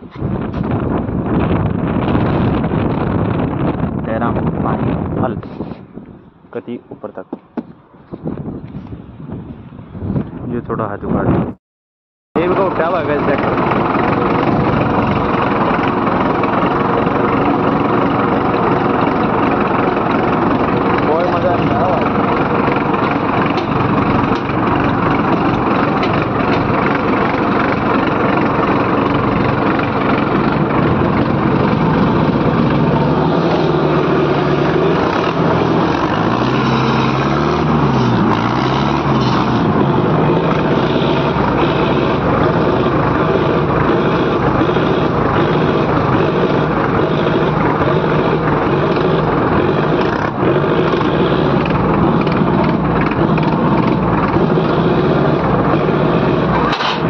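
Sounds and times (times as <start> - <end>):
diesel tractor engine running: 0.0 - 11.6, 12.4 - 57.0.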